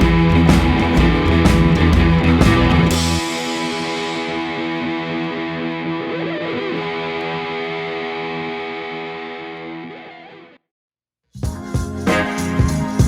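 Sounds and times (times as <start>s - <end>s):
distorted electric guitar chord ringing: 0.0s - 10.6s.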